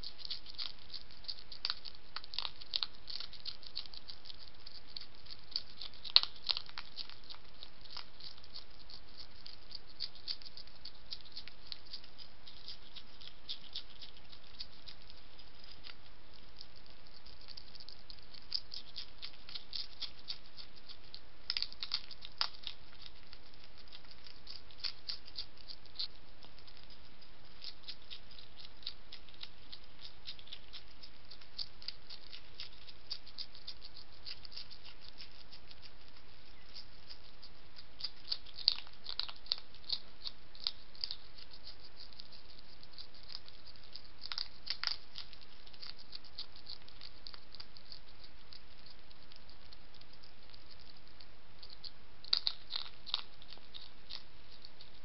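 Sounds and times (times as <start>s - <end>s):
hedgehog crunching dry food: 0.0s - 55.0s.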